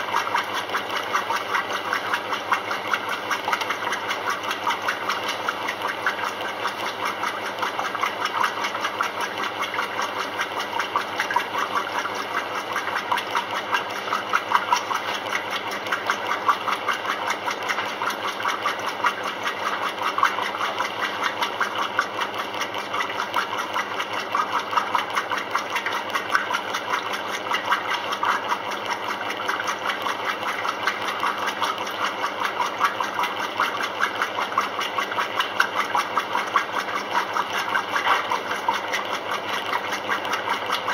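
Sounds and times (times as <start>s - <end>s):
washing machine running: 0.0s - 40.9s.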